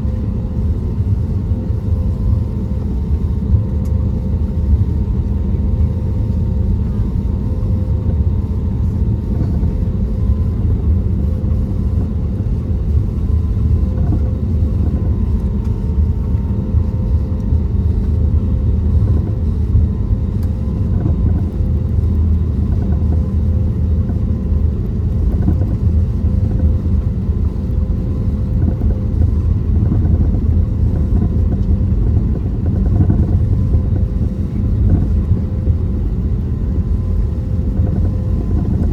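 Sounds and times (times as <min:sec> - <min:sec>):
aircraft cabin low rumble: 0:00.0 - 0:38.9.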